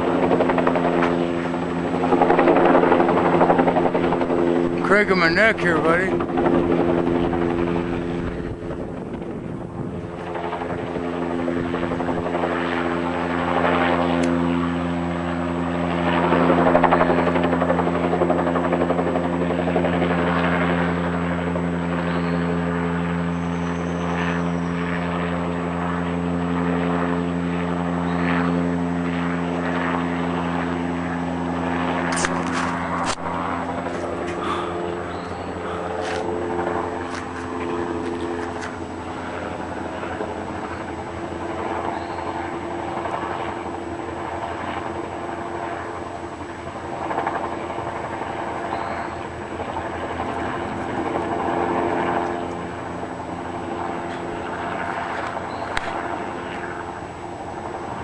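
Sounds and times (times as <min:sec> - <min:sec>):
helicopter flying overhead: 0:00.0 - 0:58.0.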